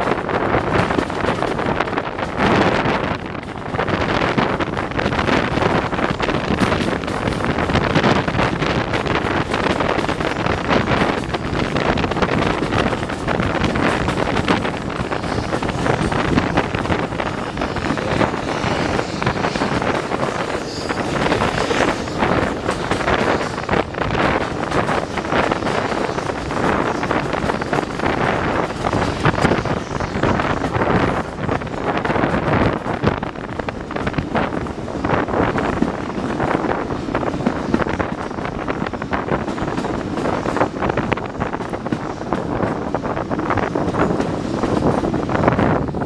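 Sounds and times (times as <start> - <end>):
train coach running on track: 0.0 - 46.0
wind buffeting microphone: 0.0 - 46.0.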